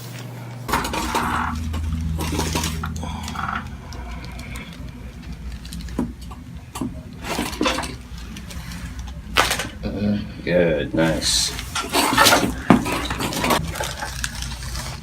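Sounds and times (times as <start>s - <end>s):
low mechanical motor hum: 0.0s - 15.0s.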